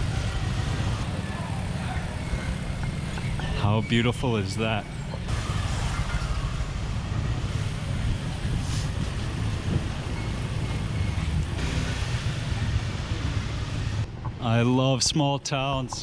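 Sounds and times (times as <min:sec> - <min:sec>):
bicycle road and wind rumble: 0:00.0 - 0:16.0.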